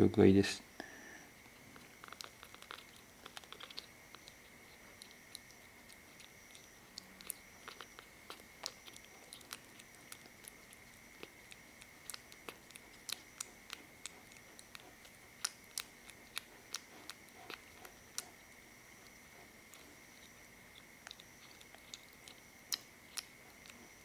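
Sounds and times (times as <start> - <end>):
kitten suckling wet mouth clicks: 1.7 - 23.8.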